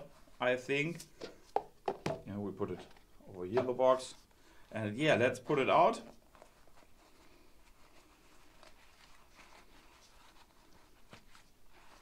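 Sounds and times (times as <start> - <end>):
faint rustling of soft case: 0.0 - 4.4, 5.8 - 12.0.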